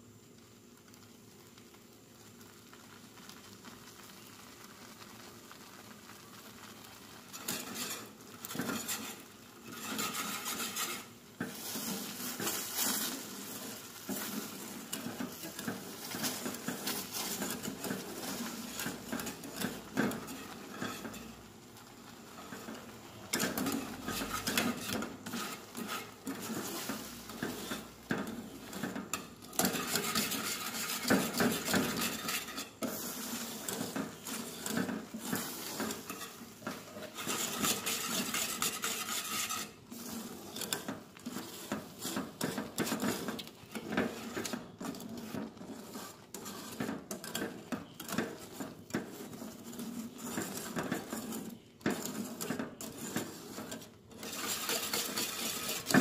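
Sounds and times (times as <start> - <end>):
whisk scraping metal pan: 6.4 - 56.0.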